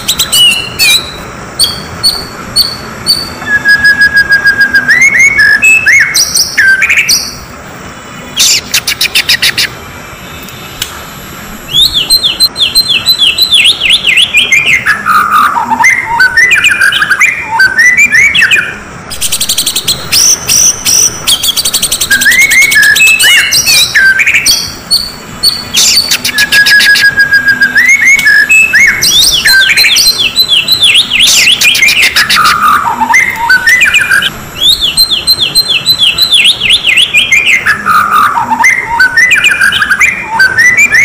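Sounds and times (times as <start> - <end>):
songbird whistling and chattering: 0.0 - 7.5, 8.2 - 10.6, 11.6 - 41.0.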